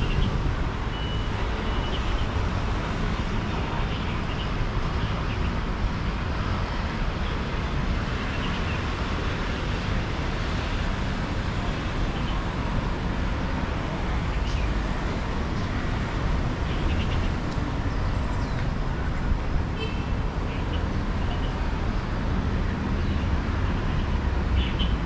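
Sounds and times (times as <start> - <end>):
city traffic noise: 0.0 - 25.0.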